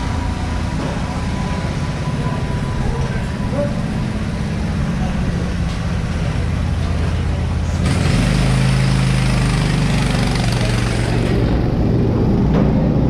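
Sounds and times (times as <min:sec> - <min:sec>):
go-kart engine revving: 0:00.0 - 0:13.0.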